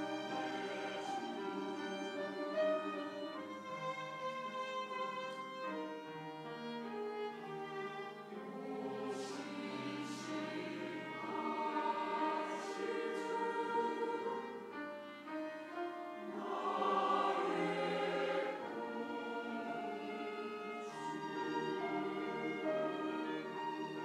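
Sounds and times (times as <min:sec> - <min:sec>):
choir singing a hymn: 0:00.0 - 0:24.0
violins: 0:00.0 - 0:24.0.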